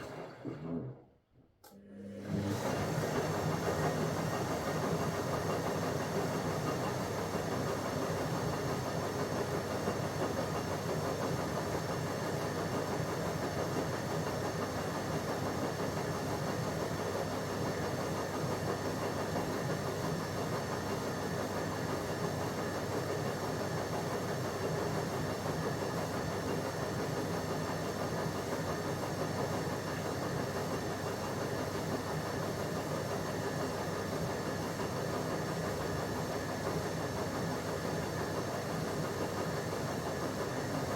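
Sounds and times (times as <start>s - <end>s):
washing machine running: 0.0s - 1.1s, 1.7s - 40.9s.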